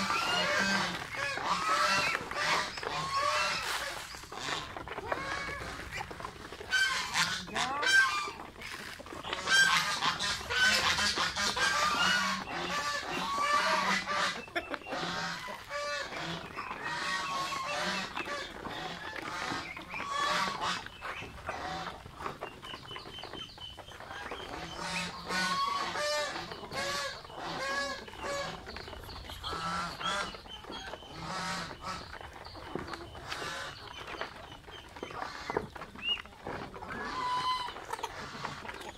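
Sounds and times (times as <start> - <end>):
geese ducks and chickens calling: 0.0 - 38.9.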